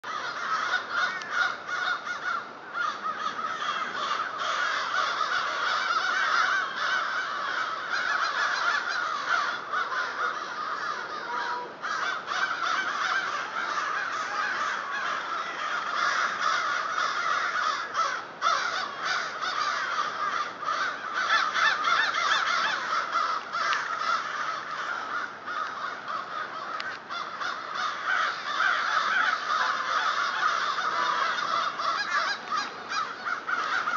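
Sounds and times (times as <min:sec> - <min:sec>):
flock of birds calling: 0:00.0 - 0:33.9.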